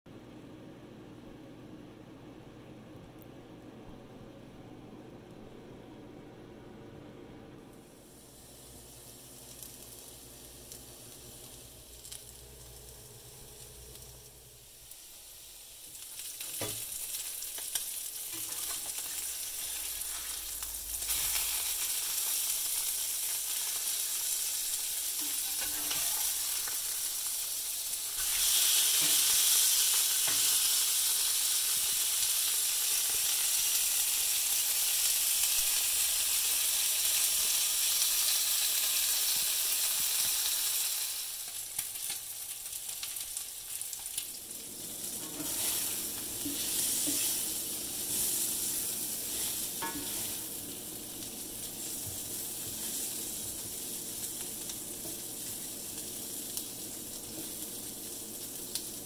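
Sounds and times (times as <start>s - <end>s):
steaks sizzling in skillet: 8.0s - 59.0s.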